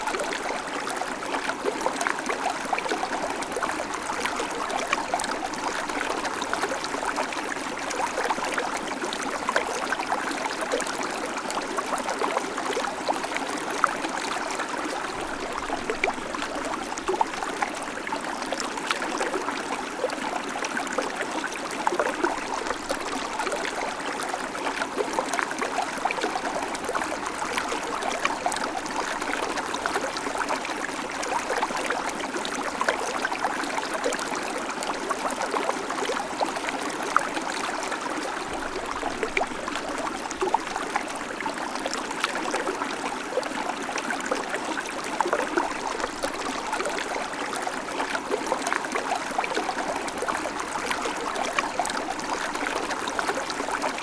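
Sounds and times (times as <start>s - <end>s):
creek water over stones: 0.0s - 54.0s.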